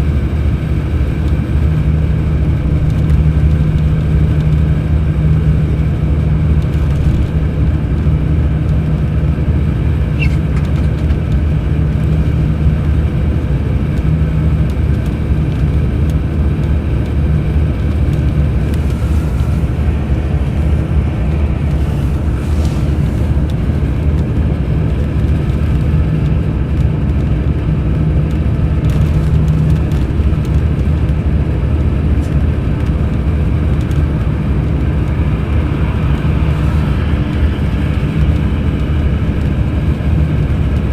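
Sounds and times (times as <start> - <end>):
diesel bus engine droning: 0.0 - 40.9.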